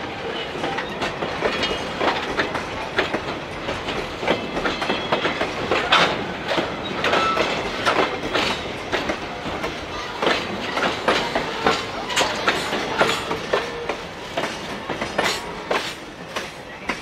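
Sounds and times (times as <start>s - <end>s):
train wheels clicking over rail joints: 0.2s - 17.0s.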